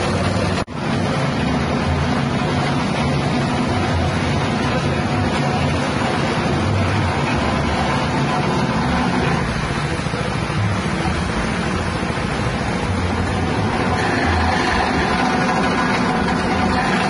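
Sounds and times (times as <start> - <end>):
grass chopping machine running: 0.0 - 17.0.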